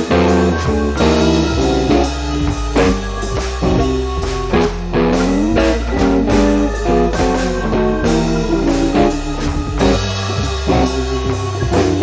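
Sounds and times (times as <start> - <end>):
guitar tune over drums: 0.0 - 12.0.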